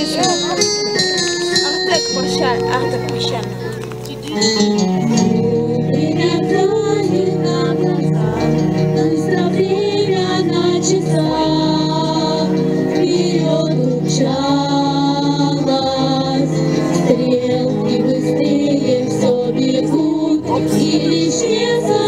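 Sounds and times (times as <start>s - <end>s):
instrumental accompaniment: 0.0s - 22.0s
woman singing: 0.0s - 22.0s.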